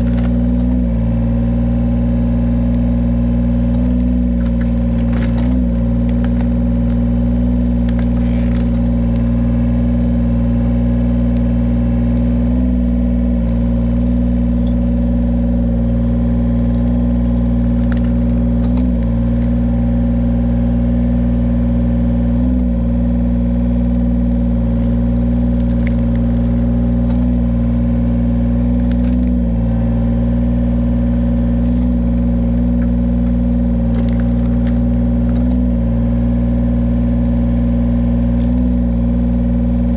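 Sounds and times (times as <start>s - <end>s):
firewood splitting machine engine: 0.0s - 39.9s.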